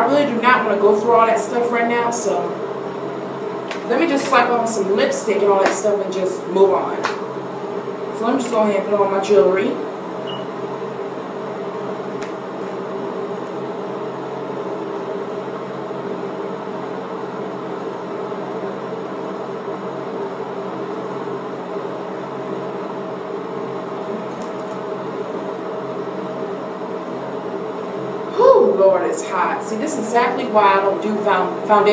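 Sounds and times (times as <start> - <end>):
air conditioner humming: 0.0 - 31.9.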